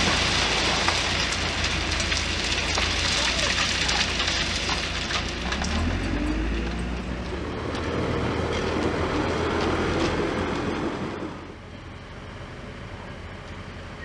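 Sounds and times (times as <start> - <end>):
low track rumble: 0.0 - 14.0
rail vehicle motor whine: 0.6 - 14.0.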